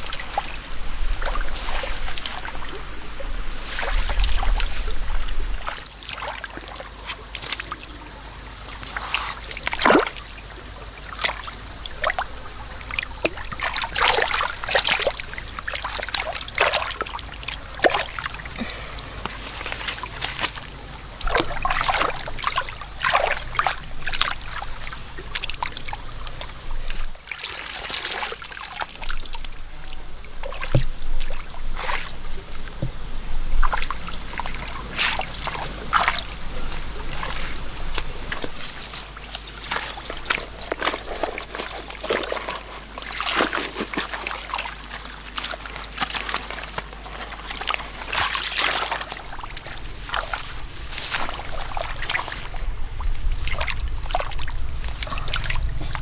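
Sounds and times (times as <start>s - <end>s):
splashing in muddy water: 0.0s - 56.0s.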